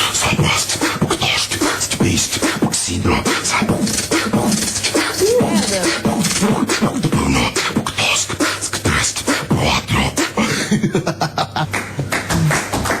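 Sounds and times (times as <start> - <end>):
man beatboxing: 0.0 - 13.0.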